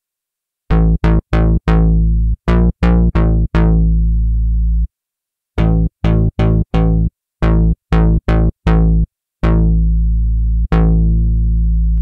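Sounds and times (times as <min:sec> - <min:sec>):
synthesizer bass notes: 0:00.7 - 0:04.9, 0:05.6 - 0:12.0.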